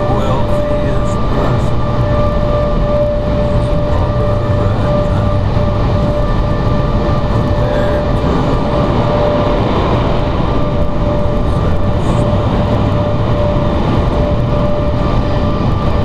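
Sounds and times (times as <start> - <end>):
car wash machinery rushing: 0.0 - 16.0
constant whine: 0.0 - 16.0.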